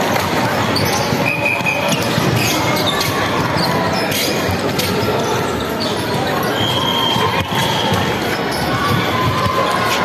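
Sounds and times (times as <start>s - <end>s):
crowd murmur: 0.0s - 10.0s
shoe squeaks: 0.6s - 9.1s.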